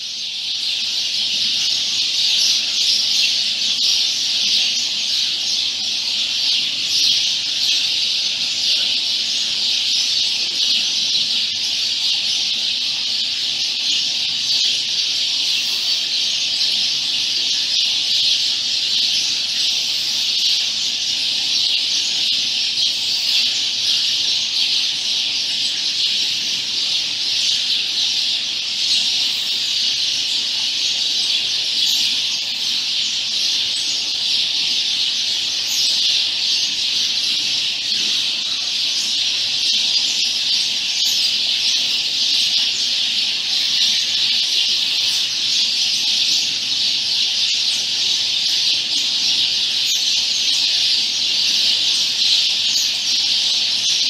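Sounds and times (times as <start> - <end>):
flock of birds chirping: 0.0 - 54.0.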